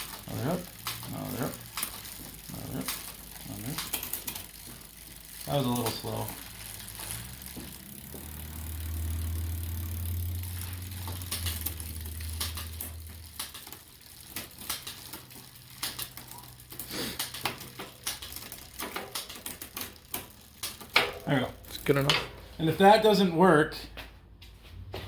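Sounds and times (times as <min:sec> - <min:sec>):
shifter and chain clicks: 0:00.0 - 0:23.0
bicycle chain running over cogs: 0:00.0 - 0:23.5.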